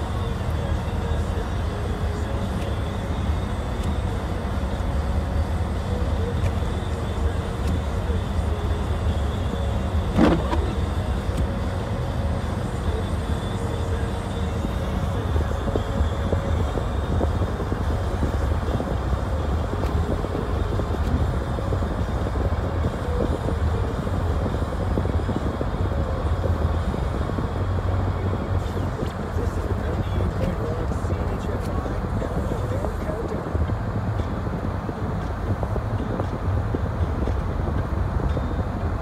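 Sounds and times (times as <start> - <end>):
tyres and engine rumbling: 0.0 - 39.0.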